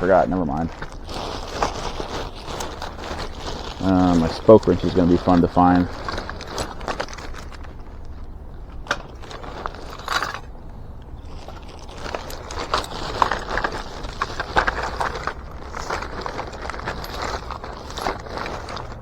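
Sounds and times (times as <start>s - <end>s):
plastic bags rustling: 0.0s - 19.0s
hand tools clinking and rattling: 0.1s - 19.0s.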